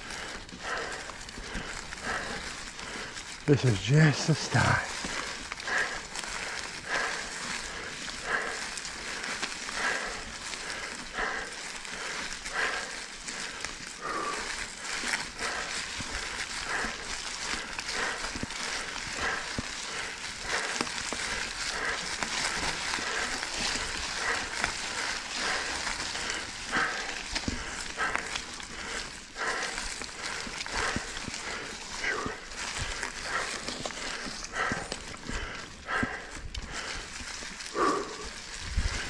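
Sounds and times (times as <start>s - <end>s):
bike tyres crunching dry leaves: 0.0s - 39.0s.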